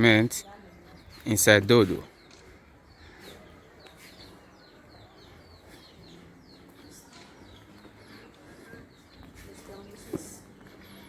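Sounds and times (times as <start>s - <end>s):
faint low outdoor background: 0.0s - 11.0s
small birds chirping: 0.0s - 11.0s.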